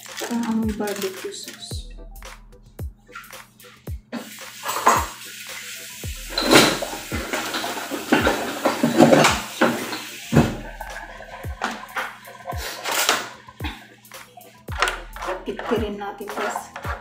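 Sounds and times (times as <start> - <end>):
kitchen rustling: 0.0 - 1.8, 3.1 - 17.0
background music with beat: 0.0 - 17.0.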